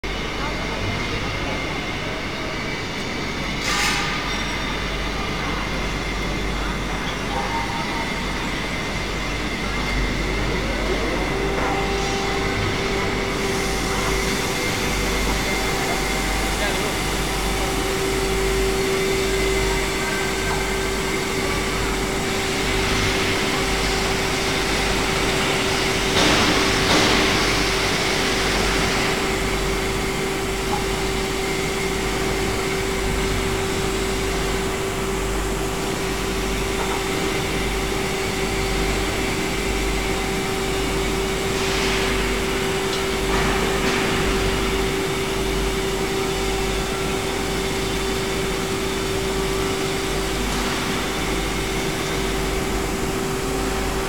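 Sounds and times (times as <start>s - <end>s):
machine drone and hum: 0.0s - 54.0s.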